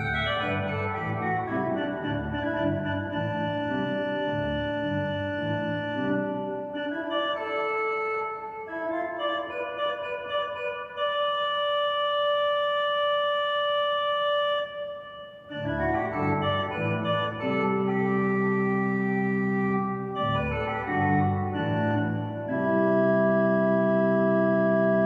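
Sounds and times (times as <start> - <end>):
pipe organ sustained chords: 0.0 - 25.0.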